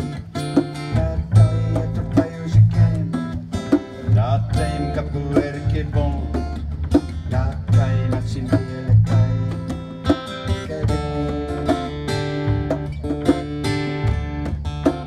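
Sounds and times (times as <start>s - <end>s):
acoustic guitar plucking: 0.0s - 15.0s
double bass line: 0.0s - 15.0s.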